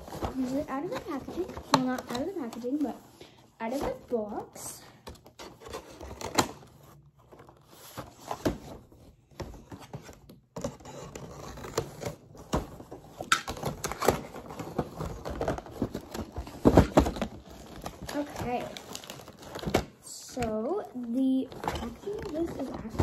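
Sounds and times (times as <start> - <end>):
cardboard and plastic rustling: 0.0 - 23.0.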